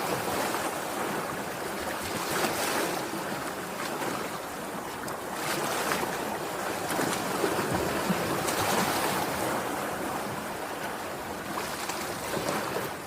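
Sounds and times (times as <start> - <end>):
waves washing onto shore: 0.0 - 13.0.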